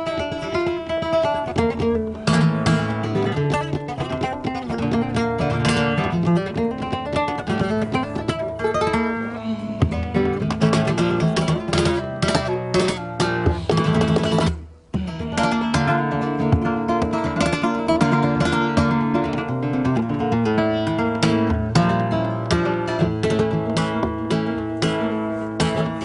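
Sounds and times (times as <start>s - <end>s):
acoustic guitar plucking: 0.0s - 26.0s.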